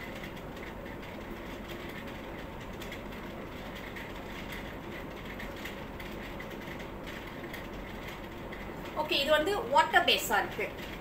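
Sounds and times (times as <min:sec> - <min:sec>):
steady mechanical noise: 0:00.0 - 0:11.0.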